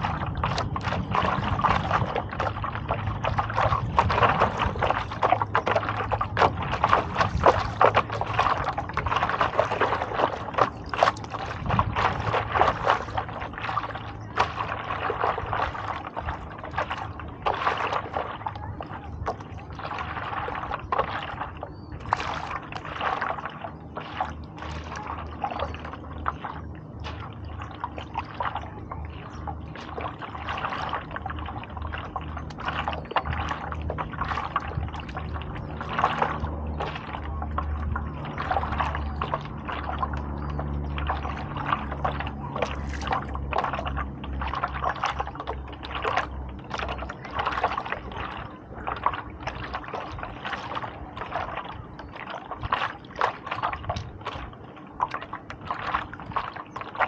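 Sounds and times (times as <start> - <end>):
low steady hum: 0.0 - 57.0
paddle splashing through water: 0.0 - 57.0.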